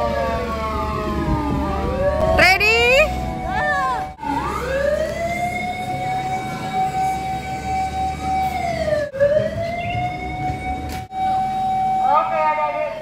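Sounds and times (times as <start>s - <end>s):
fire truck siren wailing: 0.0s - 13.0s.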